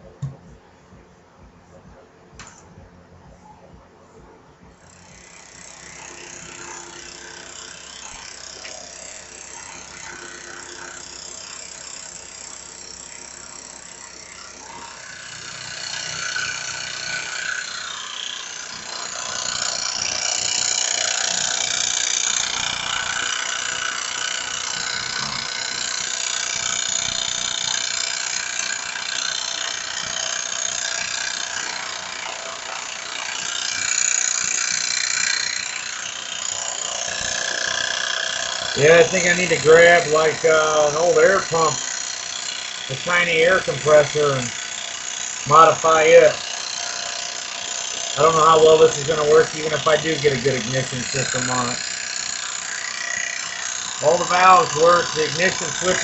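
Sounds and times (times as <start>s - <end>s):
small engine cranking clatter: 4.8s - 56.0s.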